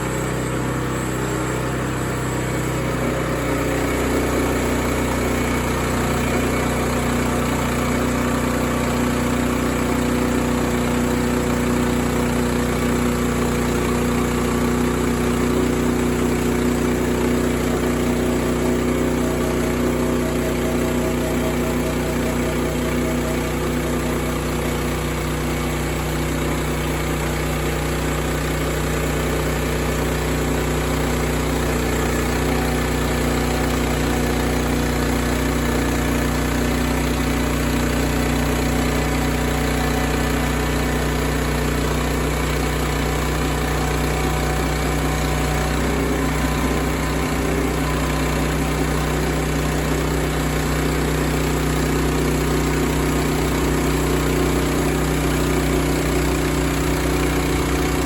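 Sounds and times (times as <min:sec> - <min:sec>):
gasoline engine running steadily: 0:00.0 - 0:58.0.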